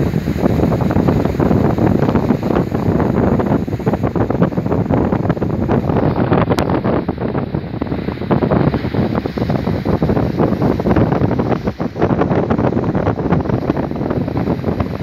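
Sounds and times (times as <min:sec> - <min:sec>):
rough sea breaking along hull: 0:00.0 - 0:15.0
wind buffeting microphone: 0:00.0 - 0:15.0.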